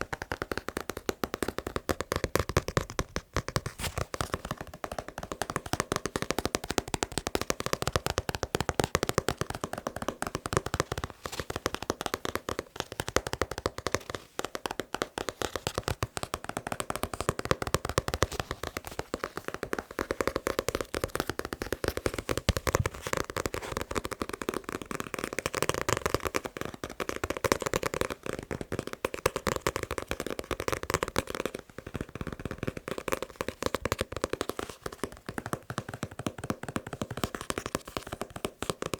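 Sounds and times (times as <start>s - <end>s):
fingertip tapping on a book: 0.0s - 38.9s.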